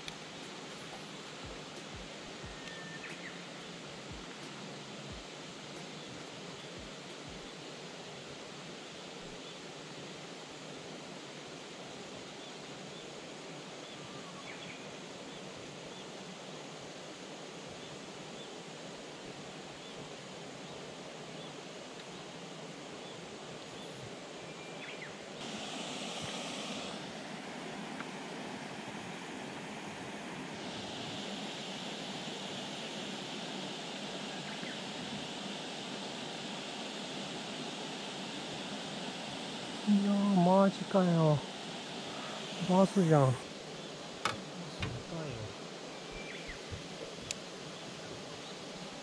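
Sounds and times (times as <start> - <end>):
hiss of open water: 0.0 - 49.0.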